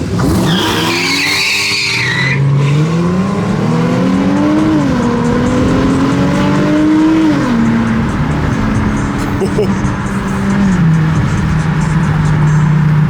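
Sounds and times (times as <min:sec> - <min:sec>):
car engine accelerating hard: 0:00.0 - 0:13.0
tyres squealing: 0:00.0 - 0:13.0.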